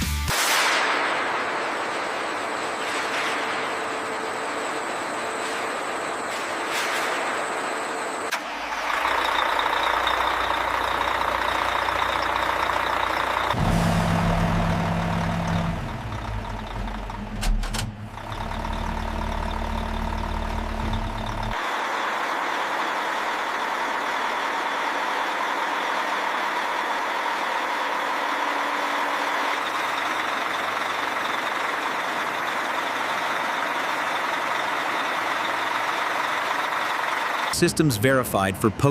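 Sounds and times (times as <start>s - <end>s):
diesel engine droning: 1.6s - 38.9s.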